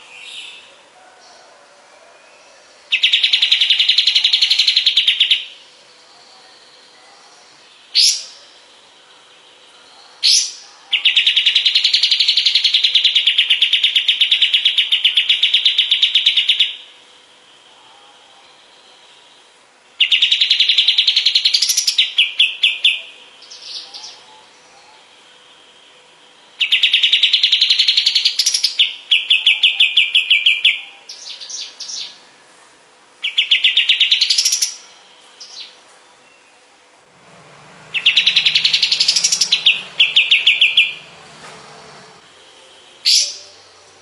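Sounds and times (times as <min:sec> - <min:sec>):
faint electrical hum: 0:00.0 - 0:44.0
songbird trilling: 0:02.9 - 0:16.9, 0:18.5 - 0:26.0, 0:26.6 - 0:32.2, 0:33.2 - 0:36.6, 0:37.6 - 0:41.4, 0:42.1 - 0:43.8.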